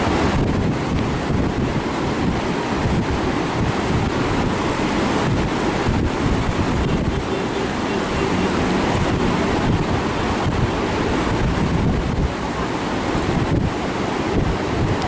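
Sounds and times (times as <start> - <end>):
whitewater river rushing: 0.0 - 15.0
wind buffeting microphone: 0.0 - 15.0.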